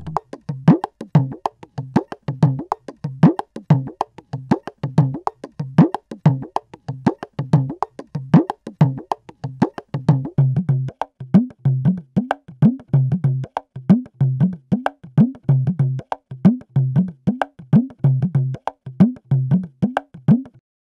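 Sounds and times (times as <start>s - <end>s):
frame drum played fast: 0.0s - 20.5s.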